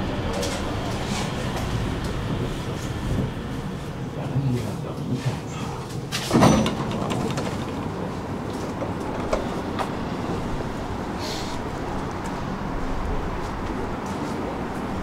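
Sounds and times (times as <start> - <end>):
tram doors whooshing: 0.0 - 15.0
tram humming at stop: 0.0 - 15.0.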